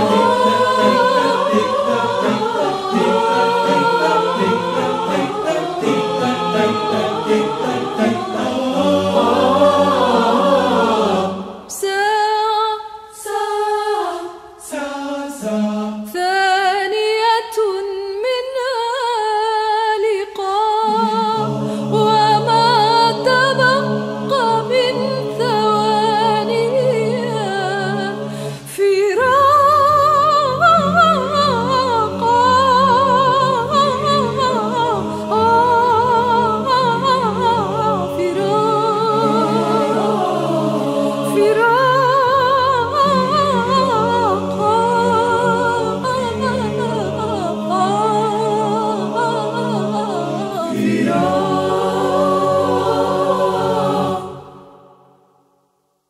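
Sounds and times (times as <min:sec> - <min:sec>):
choir singing a cappella: 0:00.0 - 0:55.2.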